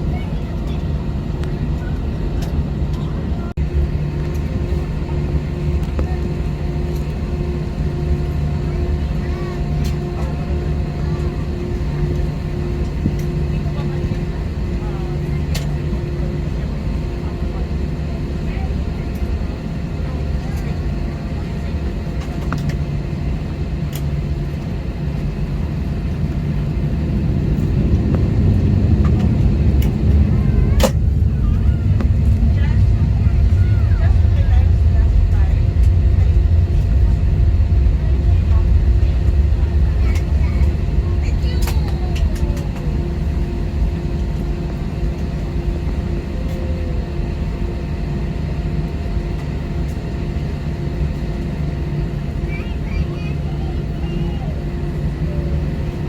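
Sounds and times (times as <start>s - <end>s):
airliner cabin rumble: 0.0s - 56.0s
engine and air system hum: 3.5s - 56.0s.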